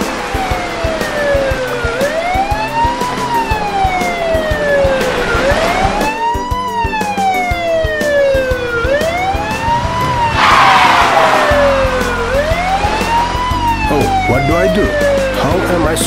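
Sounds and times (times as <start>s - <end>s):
background music with steady beat: 0.0s - 16.0s
police siren wailing: 0.0s - 16.0s.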